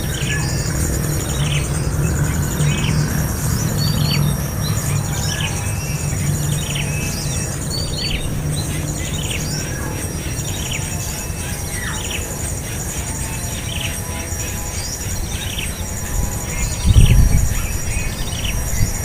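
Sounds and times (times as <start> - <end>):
high insect trilling: 0.0 - 19.0
small birds chirping: 0.0 - 19.0.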